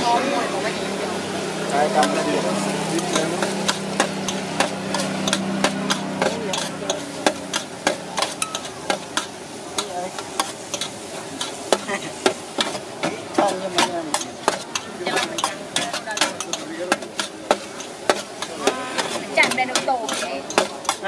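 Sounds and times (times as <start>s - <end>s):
food sizzling: 0.0s - 21.0s
metal spatula clanking on pan: 1.9s - 2.4s, 3.0s - 21.0s.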